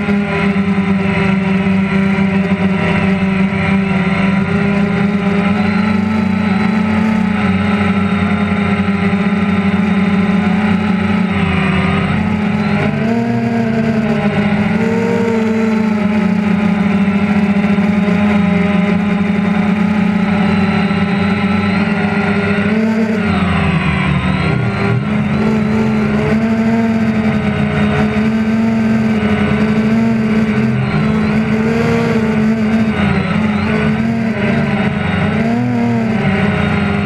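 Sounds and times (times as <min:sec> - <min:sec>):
drone motors buzzing: 0:00.0 - 0:37.0.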